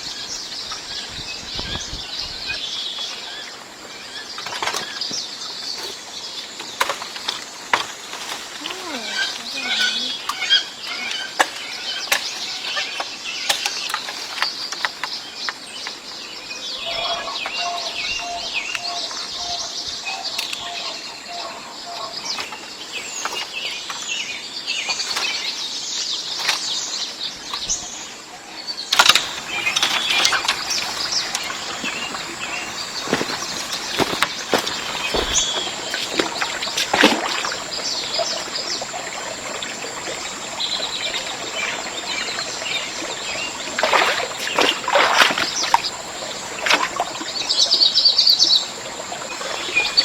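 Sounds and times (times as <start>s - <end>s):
birds chirping and calling: 0.0s - 50.0s.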